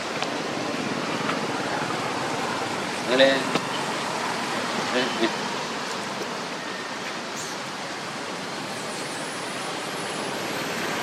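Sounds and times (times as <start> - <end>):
steady rushing outdoor noise: 0.0 - 11.0.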